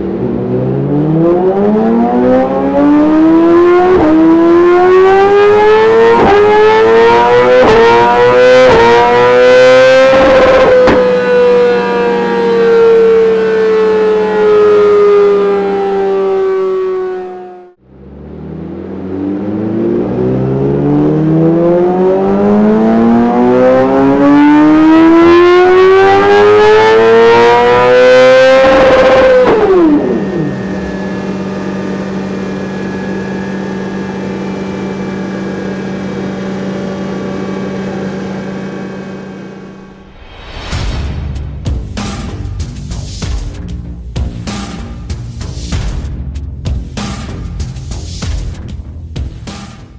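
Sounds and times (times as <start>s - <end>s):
motorcycle engine revving: 0.0s - 40.3s.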